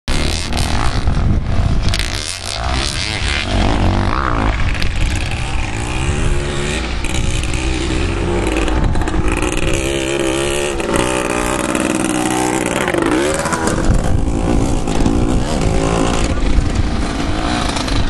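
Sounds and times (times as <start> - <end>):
dirt bike engine revving: 0.1 - 18.0.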